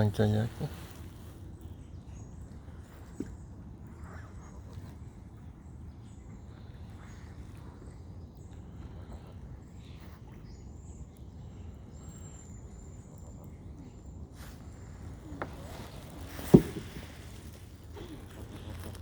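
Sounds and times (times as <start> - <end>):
water: 0.0 - 19.0
wind: 0.0 - 19.0.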